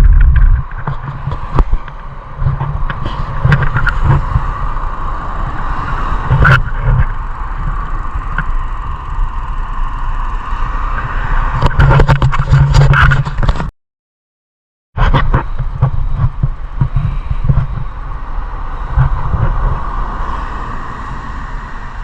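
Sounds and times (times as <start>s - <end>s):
traffic: 0.0s - 13.7s, 15.0s - 22.0s
wind and road noise: 0.0s - 13.7s, 15.0s - 22.0s.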